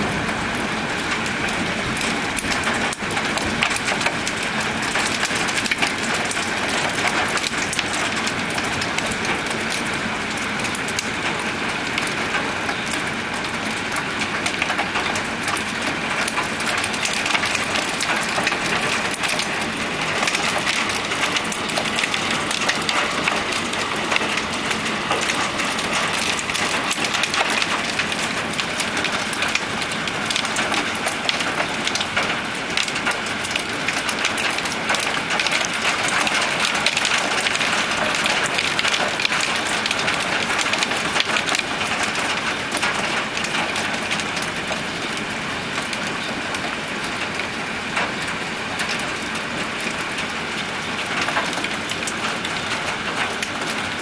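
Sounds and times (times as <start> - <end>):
hailstones striking a tile roof: 0.0 - 54.0.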